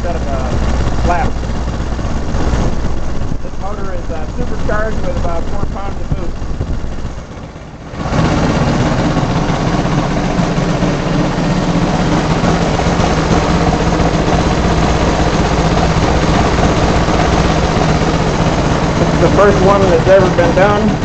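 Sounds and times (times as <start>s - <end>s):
four-stroke engine running loudly: 0.0s - 21.0s
propeller turning: 0.0s - 21.0s.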